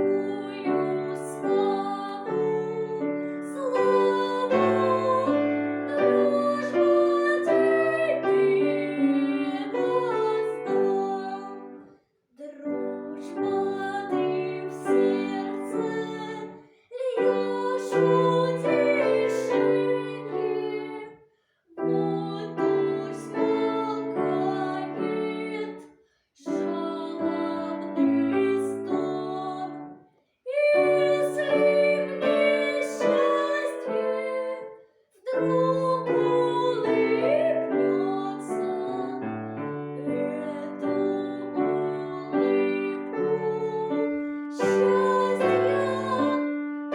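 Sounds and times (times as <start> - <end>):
piano music: 0.0 - 11.8, 12.7 - 16.5, 17.2 - 21.0, 21.8 - 25.8, 30.8 - 34.5, 35.4 - 46.9.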